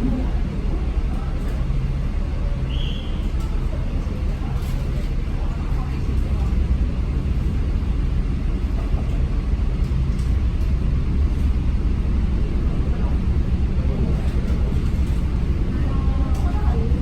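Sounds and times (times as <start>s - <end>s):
running vehicle low rumble: 0.0s - 17.0s.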